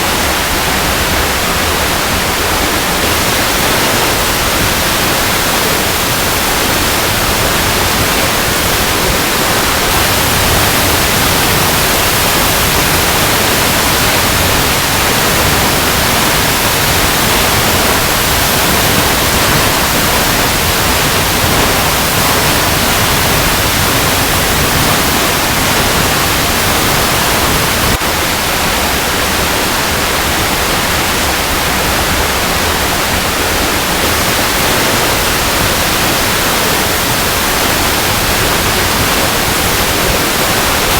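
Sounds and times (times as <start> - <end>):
waterfall rushing over rocks: 0.0 - 40.9.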